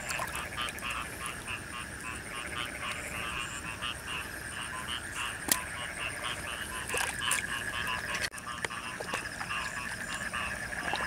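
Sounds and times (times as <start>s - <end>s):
frogs calling in chorus: 0.0s - 11.0s.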